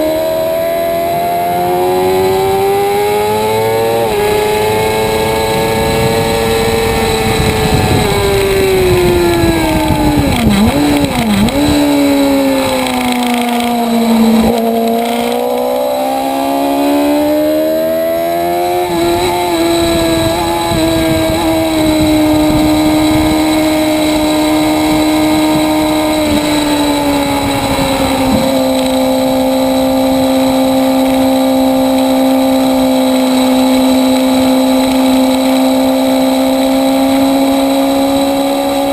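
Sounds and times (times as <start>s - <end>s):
motorcycle engine at speed: 0.0s - 38.9s
wind rush: 3.4s - 38.9s.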